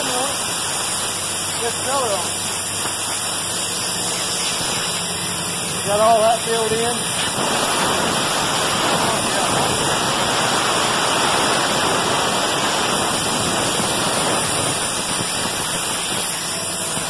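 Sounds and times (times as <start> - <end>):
compressed air hissing: 0.0 - 17.0.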